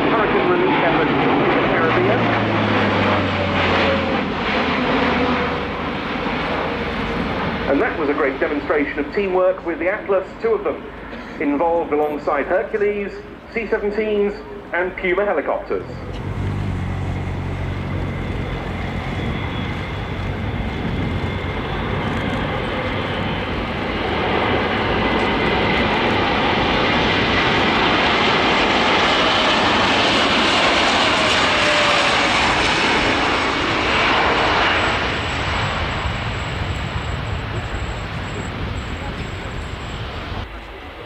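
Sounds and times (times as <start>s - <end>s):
turboprop engines running: 0.0s - 41.0s.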